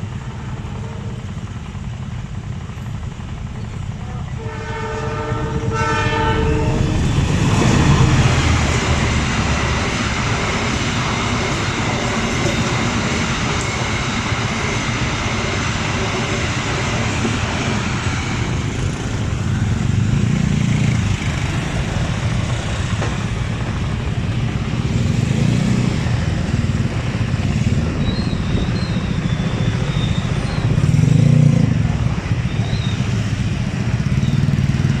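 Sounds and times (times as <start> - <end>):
motorcycles passing: 0.1 - 35.0.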